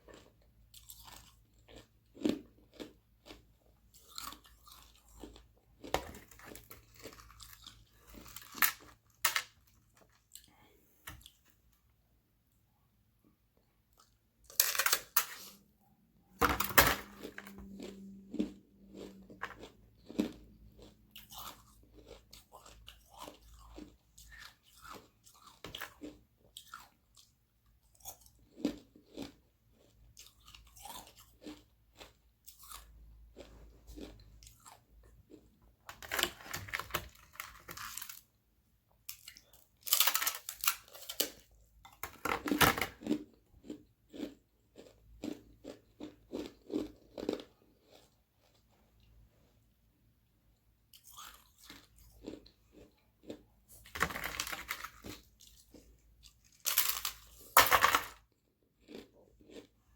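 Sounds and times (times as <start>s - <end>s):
biting and chewing ice: 0.0s - 11.4s, 16.5s - 38.4s, 39.0s - 49.6s, 50.9s - 59.9s.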